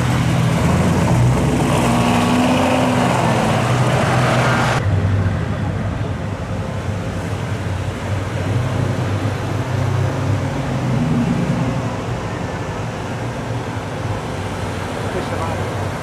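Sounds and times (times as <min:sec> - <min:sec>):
traffic engines and tyres: 0:00.0 - 0:16.0.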